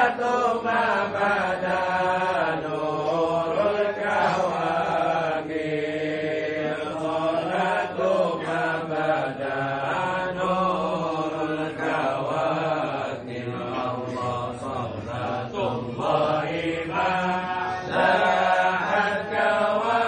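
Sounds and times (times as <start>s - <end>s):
men chanting devotional verses: 0.0s - 20.0s.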